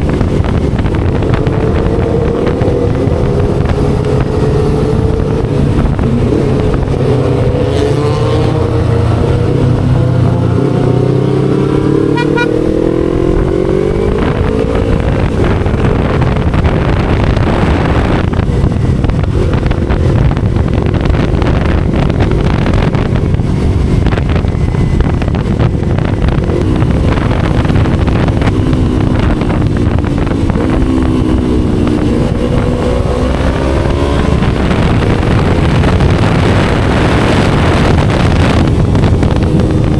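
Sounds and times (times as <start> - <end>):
motorcycle engine and exhaust: 0.0 - 39.9
wind and road noise: 0.0 - 39.9.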